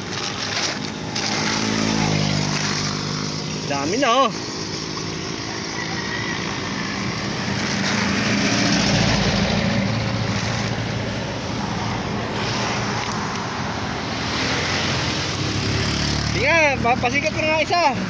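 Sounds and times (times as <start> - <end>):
road traffic passing: 0.0 - 18.0
vehicle engine: 0.0 - 18.0.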